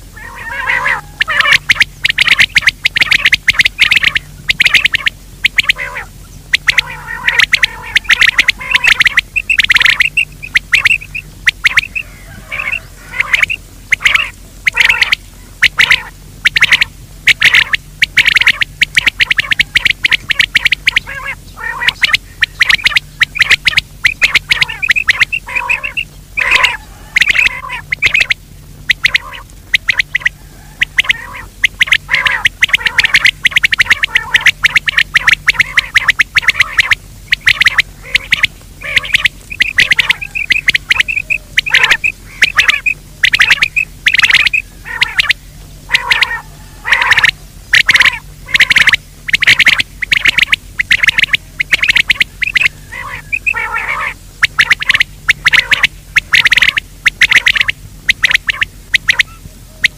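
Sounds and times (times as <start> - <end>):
faint low hum: 0.0 - 59.9
short game bird calls: 0.2 - 59.9.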